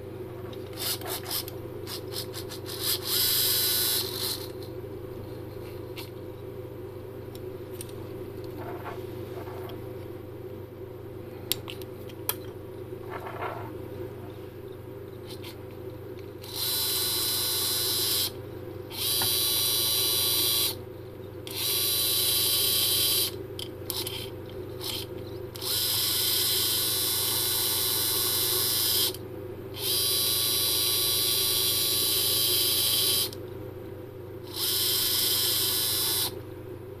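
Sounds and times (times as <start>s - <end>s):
low steady hum: 0.0s - 28.5s, 29.1s - 34.7s, 36.3s - 37.0s.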